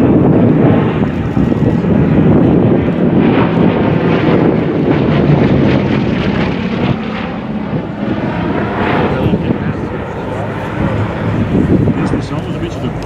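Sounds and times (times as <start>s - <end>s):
aeroplane engines flying past: 0.0s - 13.0s.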